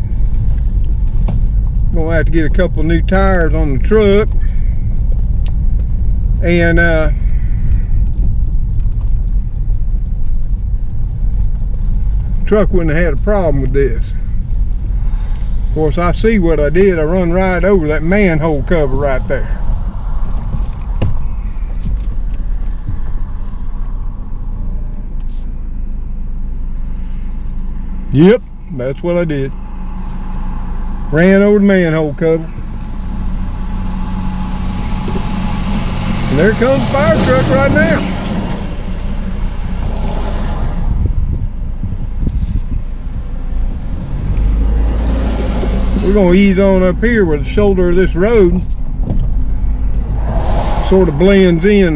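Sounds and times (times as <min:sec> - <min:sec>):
truck rumbling on rough road: 0:00.0 - 0:51.9.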